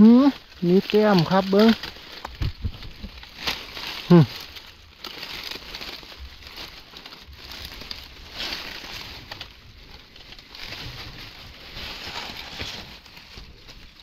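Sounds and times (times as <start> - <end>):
dry leaves rustling and crackling: 0.0 - 14.0.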